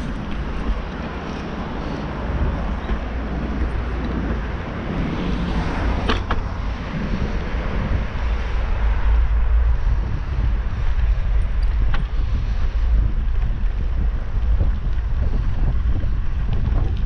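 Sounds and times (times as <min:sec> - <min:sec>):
bicycle tyres rolling on asphalt: 0:00.0 - 0:17.0
wind buffeting microphone: 0:00.0 - 0:17.0.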